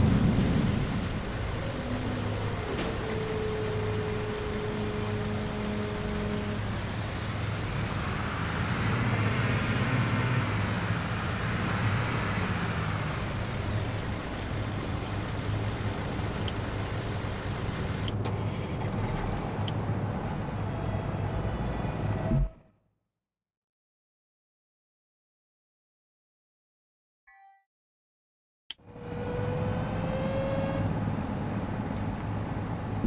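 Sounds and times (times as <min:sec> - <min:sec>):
diesel engine droning: 0:00.0 - 0:22.6, 0:28.8 - 0:33.0.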